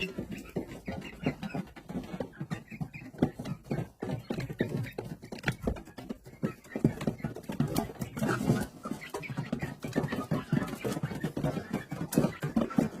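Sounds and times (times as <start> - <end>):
chick calls: 0.0 - 13.0
chick tapping and scuffling: 0.0 - 13.0.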